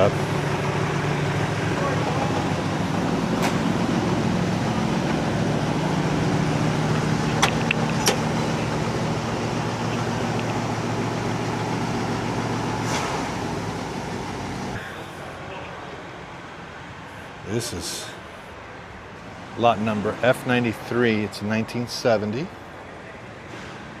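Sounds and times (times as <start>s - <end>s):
vehicle engine idling: 0.0s - 23.5s.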